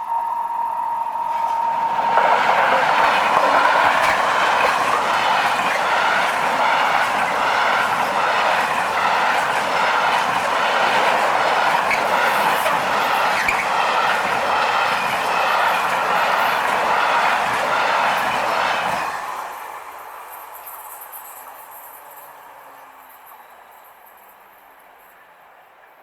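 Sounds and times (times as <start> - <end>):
train wheels rushing on rails: 1.1 - 26.0.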